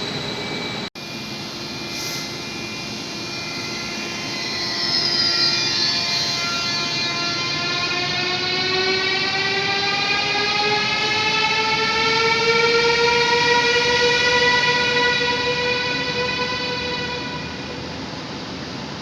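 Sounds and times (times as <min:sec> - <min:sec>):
electric train traction whine: 0:00.0 - 0:19.0.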